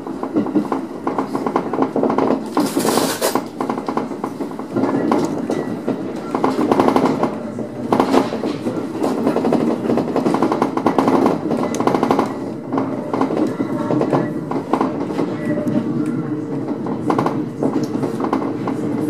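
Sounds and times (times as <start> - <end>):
train running rumble: 0.0 - 19.0
train wheels clattering: 0.0 - 19.0.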